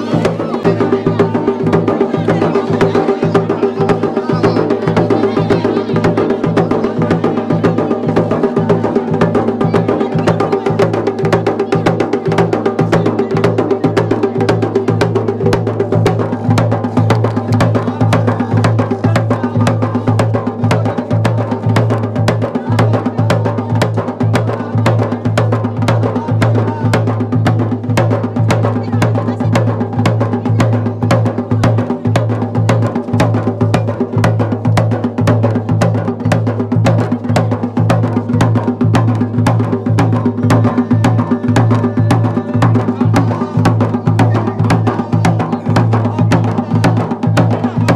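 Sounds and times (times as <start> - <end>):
fast steady drumming: 0.0 - 47.9.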